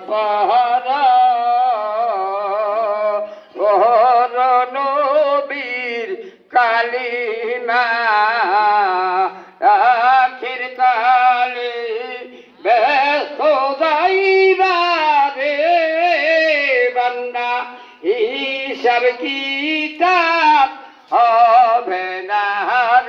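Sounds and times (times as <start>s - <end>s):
man singing unaccompanied: 0.0s - 23.0s.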